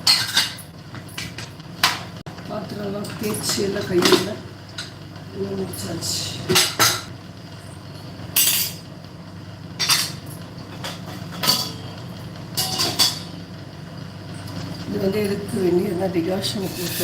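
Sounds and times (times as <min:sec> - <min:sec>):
kitchen utensils clanking: 0:00.0 - 0:02.2, 0:02.8 - 0:05.0, 0:05.6 - 0:08.9, 0:09.8 - 0:13.4, 0:14.3 - 0:17.0
steady low hum: 0:00.0 - 0:17.0.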